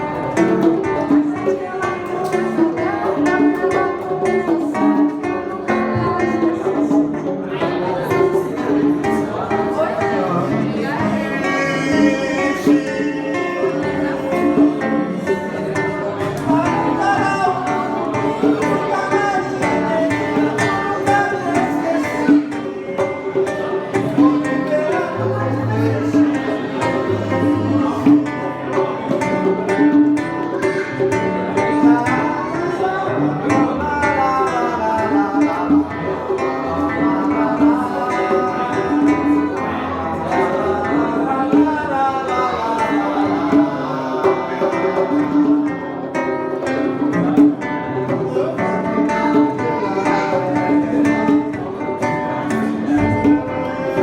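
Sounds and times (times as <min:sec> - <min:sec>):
acoustic guitar playing: 0:00.0 - 0:54.0
bongos and congas tapping: 0:00.0 - 0:54.0
man singing: 0:00.0 - 0:54.0.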